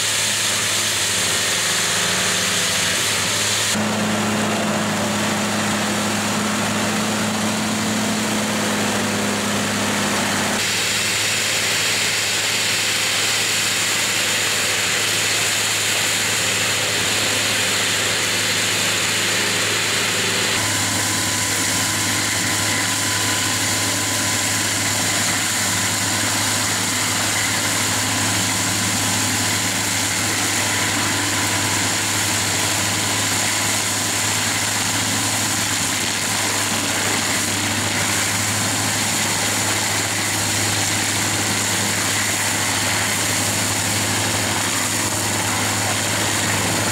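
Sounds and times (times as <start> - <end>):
mulcher shredding brush: 0.0 - 46.9
tiller churning soil: 0.0 - 46.9
tractor engine running under load: 0.0 - 46.9.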